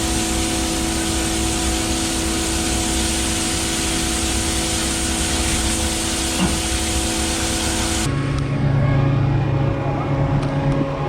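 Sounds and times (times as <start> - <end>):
concrete pump truck diesel hum: 0.0 - 11.0.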